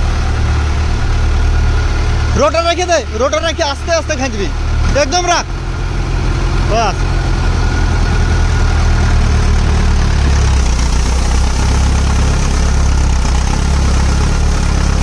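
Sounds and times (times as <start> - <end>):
diesel tractor engines under load: 0.0 - 15.0.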